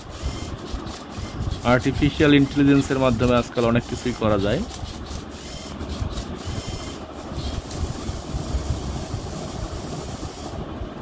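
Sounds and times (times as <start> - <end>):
robot motors whirring: 0.0 - 10.5.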